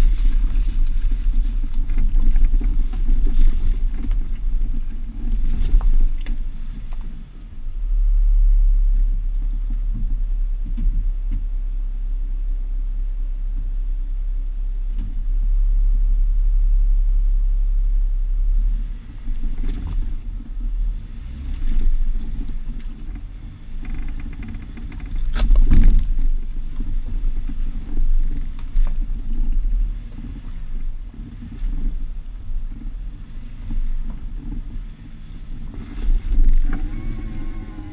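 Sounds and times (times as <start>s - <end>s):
muffled engine rumble: 0.0s - 37.9s
wind: 0.0s - 37.9s.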